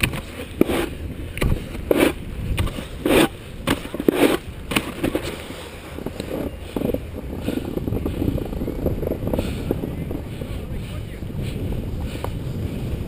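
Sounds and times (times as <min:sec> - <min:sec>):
low wind rumble on microphone: 0:00.0 - 0:13.0
snowboard scraping over snow: 0:00.0 - 0:13.0.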